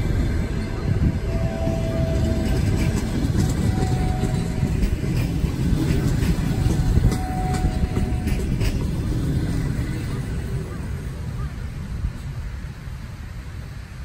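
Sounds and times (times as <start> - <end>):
wheels clicking over rail joints: 0.0 - 11.4
train wheels rumbling on rail: 0.0 - 14.0.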